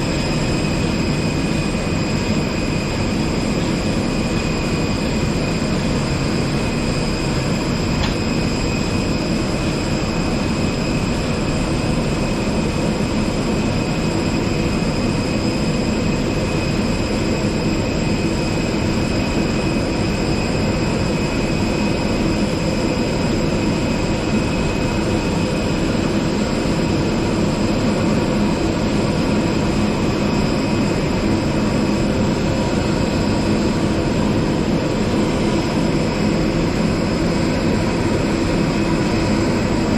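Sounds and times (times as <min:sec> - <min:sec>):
aircraft turbine whine: 0:00.0 - 0:39.9.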